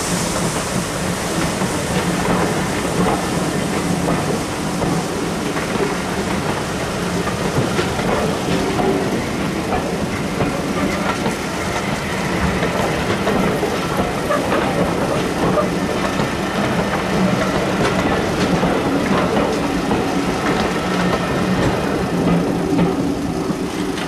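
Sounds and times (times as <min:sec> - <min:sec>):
train wheels clicking over rail joints: 0:00.0 - 0:24.0.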